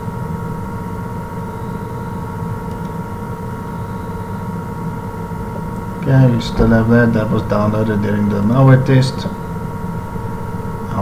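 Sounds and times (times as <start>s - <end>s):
steady hum with constant tones: 0.0s - 11.0s.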